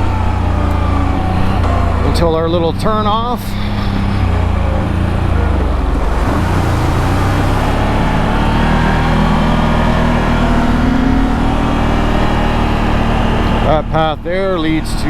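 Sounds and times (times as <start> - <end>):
atv engine running: 0.0 - 15.0
ride noise on rough road: 0.0 - 15.0.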